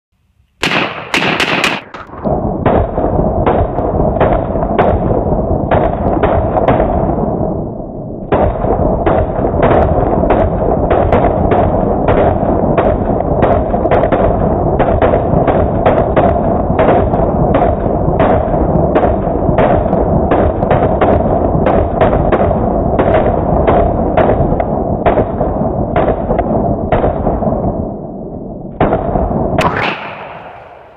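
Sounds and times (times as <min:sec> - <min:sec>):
rifles firing: 0:00.6 - 0:07.4, 0:08.3 - 0:27.7, 0:28.8 - 0:30.9.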